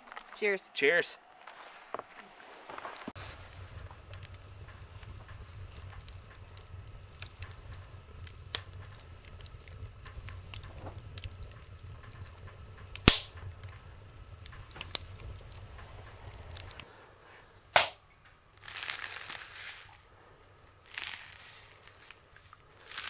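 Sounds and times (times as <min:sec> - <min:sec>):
logs crackling and popping: 0:00.0 - 0:00.6, 0:01.4 - 0:17.0, 0:17.7 - 0:23.0
low fire rumble: 0:02.7 - 0:23.0.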